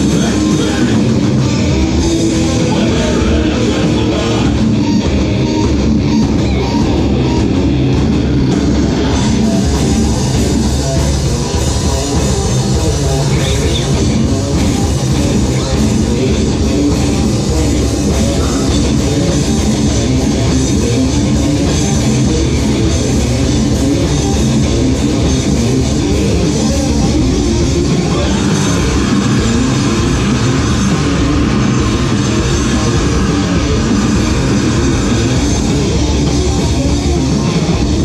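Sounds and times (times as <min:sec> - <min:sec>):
bass guitar: 0:00.0 - 0:38.0
drum kit: 0:00.0 - 0:38.0
electric guitars: 0:00.0 - 0:38.0.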